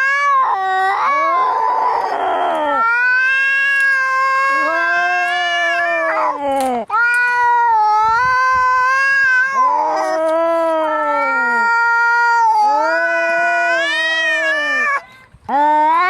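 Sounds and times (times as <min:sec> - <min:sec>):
cats yowling in a fight: 0:00.0 - 0:15.0.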